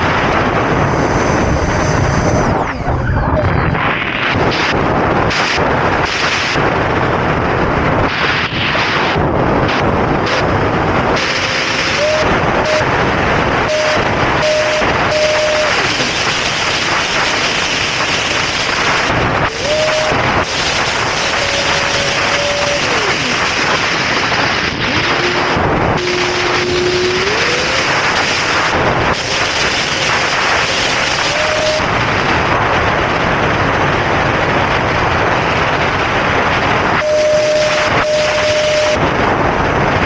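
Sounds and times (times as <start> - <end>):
electric fan whine: 0.0 - 40.0
wind rushing over microphone: 0.0 - 40.0.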